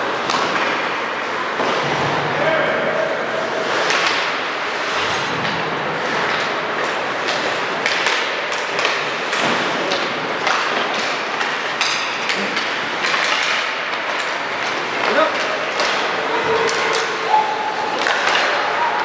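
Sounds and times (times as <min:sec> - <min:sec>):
din of gym hall: 0:00.0 - 0:19.0.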